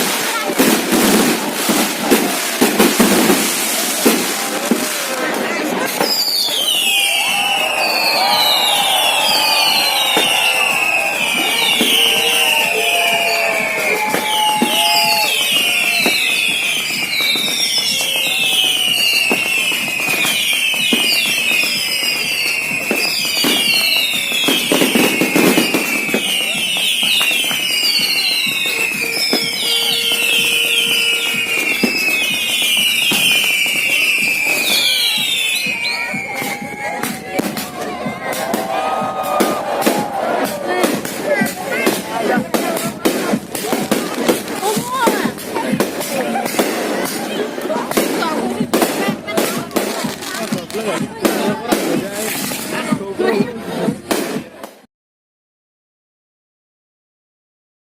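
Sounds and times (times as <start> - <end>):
crowd voices: 0.0 - 54.9
fireworks crackles and pops: 0.0 - 54.9
whistling fireworks: 0.0 - 54.9.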